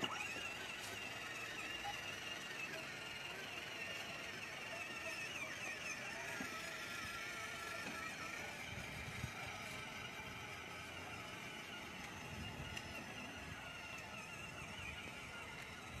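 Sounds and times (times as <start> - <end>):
toy car electric motor whine: 0.0 - 16.0.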